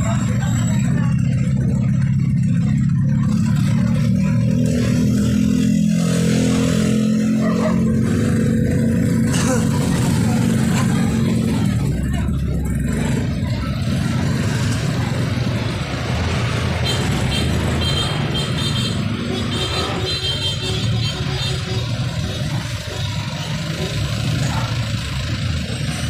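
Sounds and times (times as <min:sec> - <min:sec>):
motor scooter engine running: 0:00.0 - 0:26.0
vehicles rolling past: 0:00.0 - 0:26.0.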